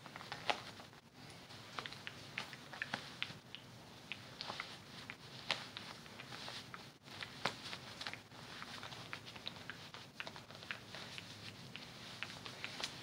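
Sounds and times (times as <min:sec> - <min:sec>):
fabric and straps rustling: 0:00.0 - 0:13.0
small clicks and ticks: 0:00.1 - 0:13.0.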